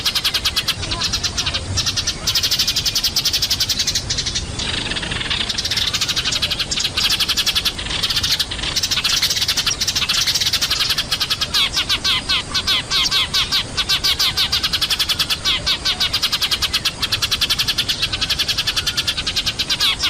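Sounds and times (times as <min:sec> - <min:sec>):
sparrows chattering: 0:00.0 - 0:20.0.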